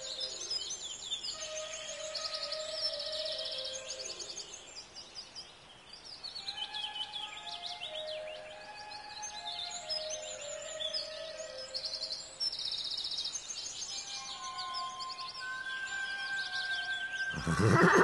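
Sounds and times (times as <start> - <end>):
bird trill: 0.0 - 4.6, 6.2 - 18.0
birds chirping: 0.0 - 18.0.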